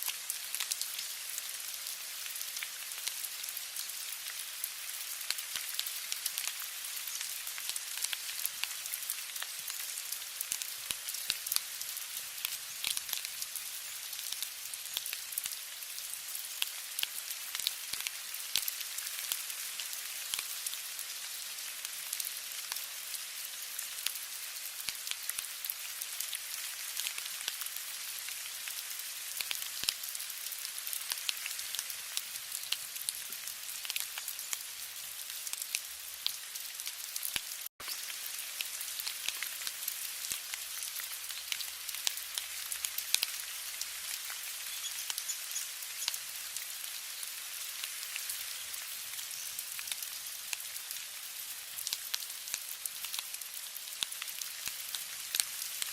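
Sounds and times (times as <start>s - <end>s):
rain falling: 0.0s - 55.9s
raindrops pattering: 0.0s - 55.9s.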